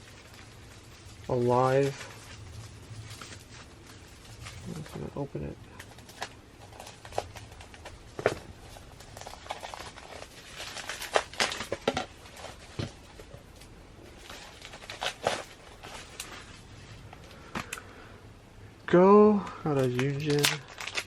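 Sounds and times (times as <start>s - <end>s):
packaging crinkling and rustling: 0.0s - 17.8s, 19.7s - 21.0s.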